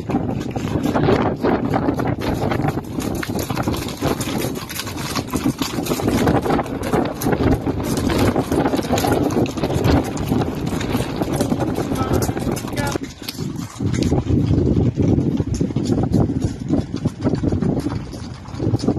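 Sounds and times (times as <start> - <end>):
horse hooves on gravel: 0.0 - 18.9
wind buffeting microphone: 0.0 - 18.9.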